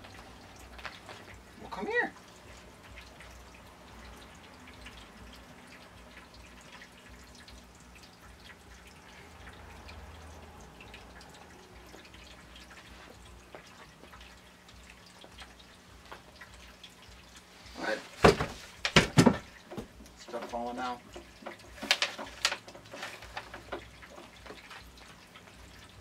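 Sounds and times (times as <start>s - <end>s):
light ticks and rustles: 0.0s - 26.0s.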